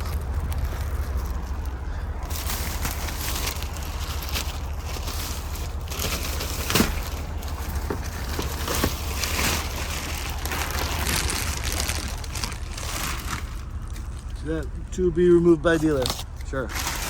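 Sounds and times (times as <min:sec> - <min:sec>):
plastic crinkling: 0:00.0 - 0:14.4, 0:15.7 - 0:17.0.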